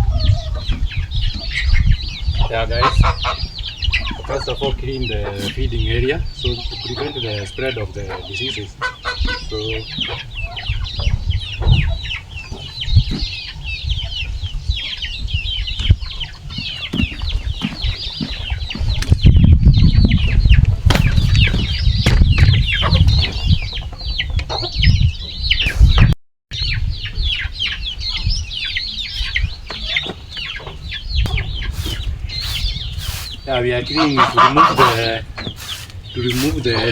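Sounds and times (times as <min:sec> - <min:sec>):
chickens cheeping: 0:00.0 - 0:36.9.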